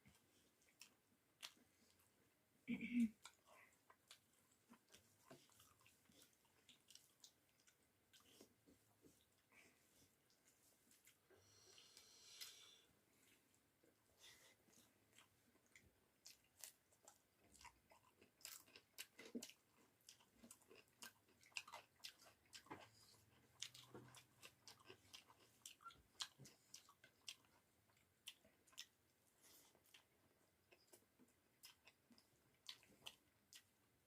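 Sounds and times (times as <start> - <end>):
close-up chewing mouth sounds: 0.0 - 2.2, 3.1 - 13.4, 14.2 - 34.0.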